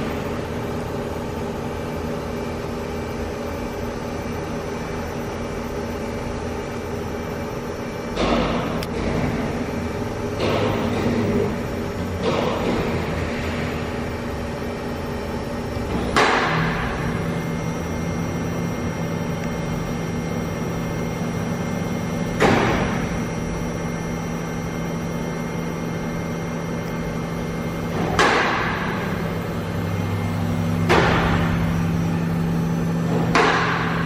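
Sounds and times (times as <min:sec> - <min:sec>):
machining center humming: 0:00.0 - 0:34.0.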